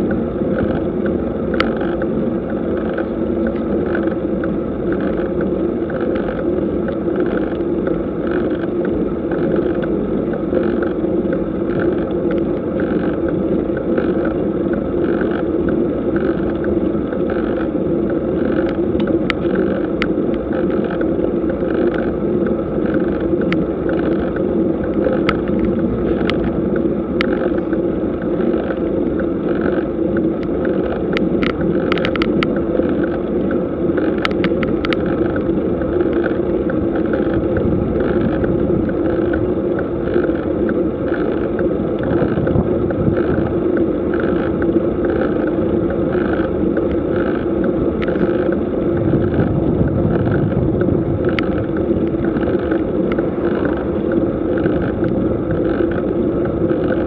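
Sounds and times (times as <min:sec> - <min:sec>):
rushing road and wind noise: 0:00.0 - 0:57.0
sharp bicycle clicks: 0:00.0 - 0:57.0.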